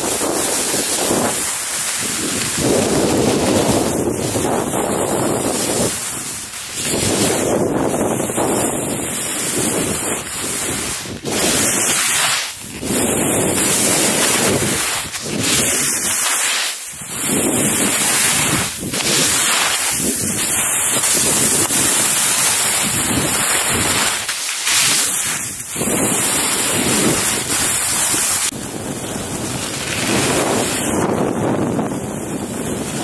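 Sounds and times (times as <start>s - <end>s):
wind buffeting microphone: 0.0s - 16.2s, 17.0s - 33.0s
skis hissing and scraping on snow: 0.0s - 33.0s.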